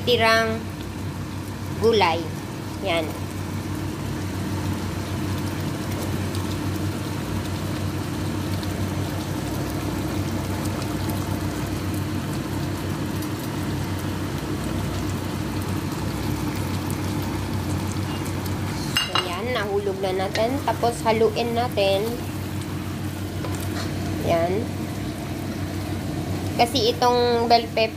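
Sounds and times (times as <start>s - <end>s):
pot simmering with hiss: 0.0s - 27.9s
steady low hum: 0.0s - 27.9s.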